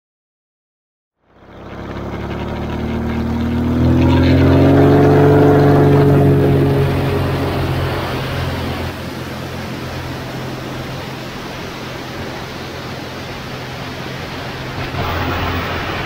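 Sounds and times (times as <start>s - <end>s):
aircraft engine humming: 1.3s - 16.0s.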